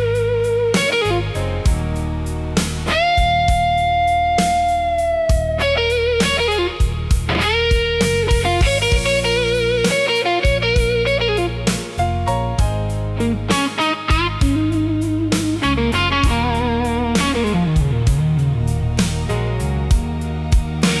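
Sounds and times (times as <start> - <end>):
electric blues guitar solo: 0.0 - 12.4, 13.2 - 18.6
bass and drums: 0.0 - 21.0.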